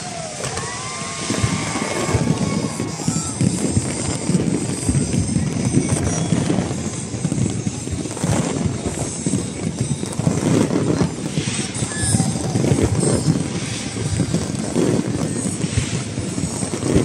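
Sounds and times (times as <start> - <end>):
fireworks popping and banging: 0.0 - 17.0.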